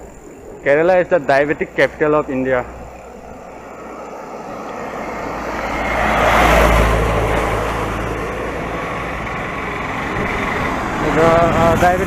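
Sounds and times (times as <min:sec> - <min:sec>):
motor vehicle passing by: 0:00.9 - 0:12.0.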